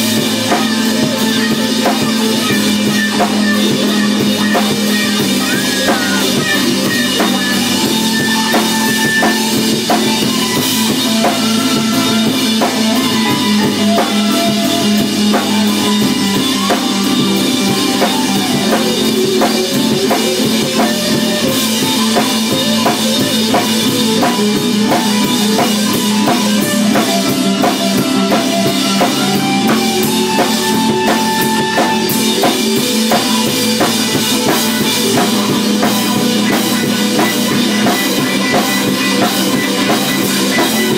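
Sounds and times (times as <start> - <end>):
drum kit beat: 0.0 - 40.9
melody line: 0.0 - 40.9
organ chords: 0.0 - 40.9.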